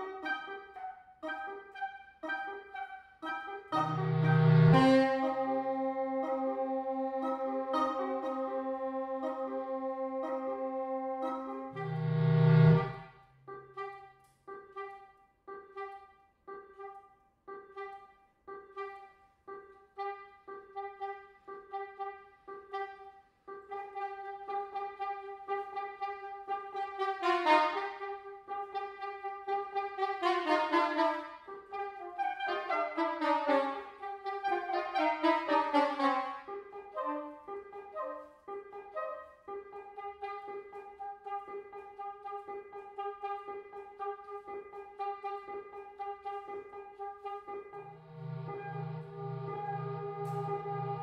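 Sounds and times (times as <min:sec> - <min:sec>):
soprano saxophone duet: 0:00.0 - 0:51.0.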